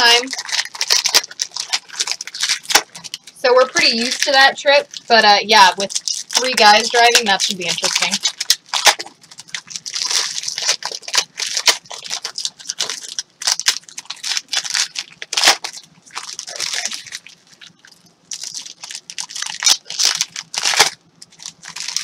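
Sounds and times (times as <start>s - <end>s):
plastic wrappers crinkling: 0.0s - 22.0s.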